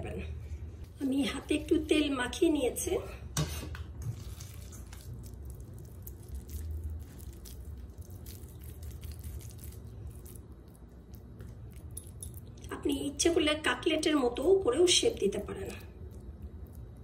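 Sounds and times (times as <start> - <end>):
low steady hum: 0.0 - 17.0
squishing of mixture rolled by hands: 0.2 - 3.2, 3.9 - 12.7, 13.9 - 17.0.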